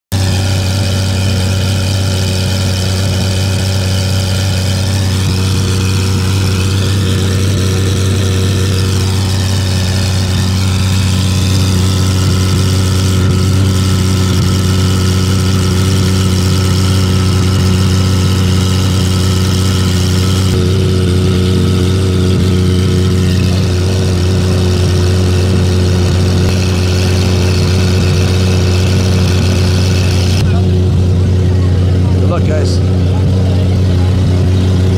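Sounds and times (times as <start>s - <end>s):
steady engine drone: 0.0s - 34.9s.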